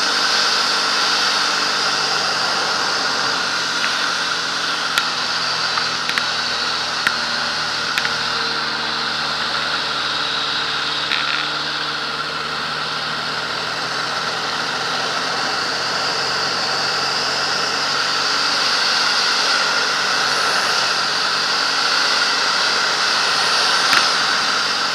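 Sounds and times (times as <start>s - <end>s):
propeller plane engine hum: 0.0s - 24.9s
rushing airflow: 0.0s - 24.9s.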